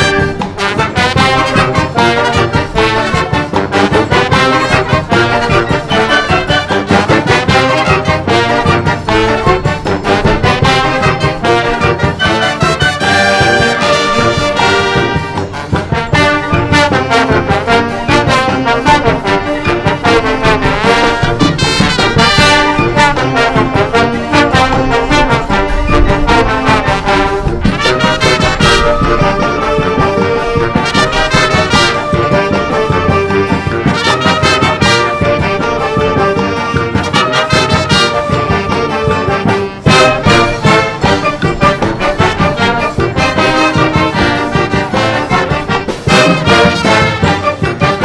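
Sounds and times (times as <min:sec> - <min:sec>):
wind band playing: 0:00.0 - 0:48.0.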